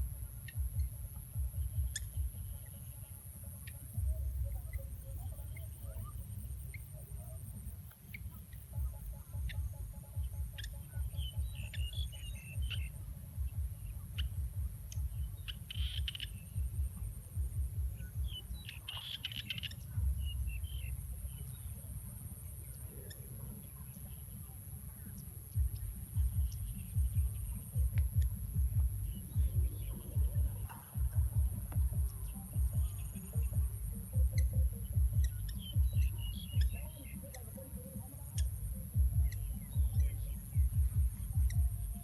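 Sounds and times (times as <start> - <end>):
bird chirps: 0.4 - 42.0.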